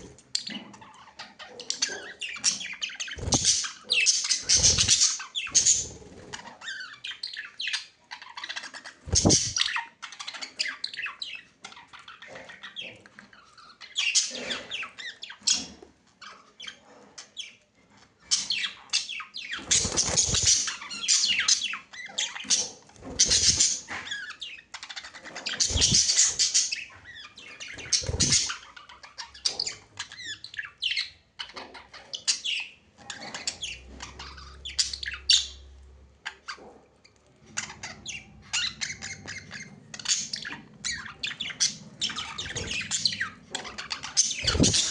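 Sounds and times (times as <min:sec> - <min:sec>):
budgerigars chattering: 0:00.0 - 0:17.6, 0:18.3 - 0:35.6, 0:37.6 - 0:44.9.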